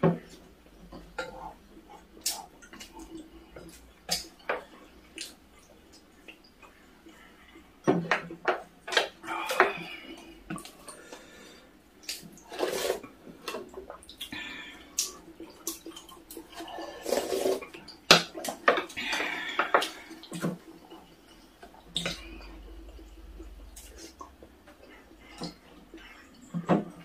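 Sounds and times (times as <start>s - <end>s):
wet eating sounds: 0.0s - 27.0s.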